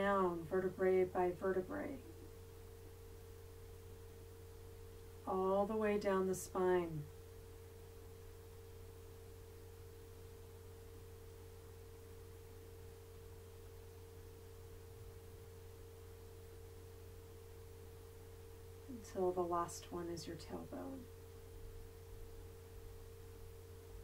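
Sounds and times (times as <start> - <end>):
held tone hum: 0.0 - 24.0.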